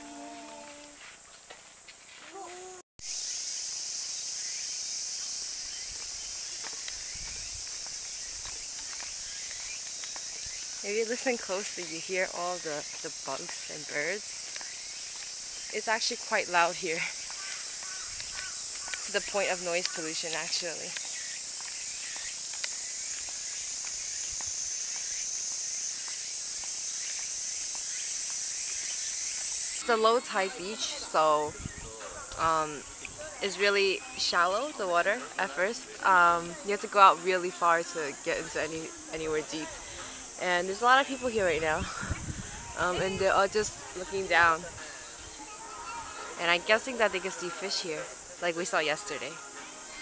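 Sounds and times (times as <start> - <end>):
insects buzzing: 0.0 - 50.0.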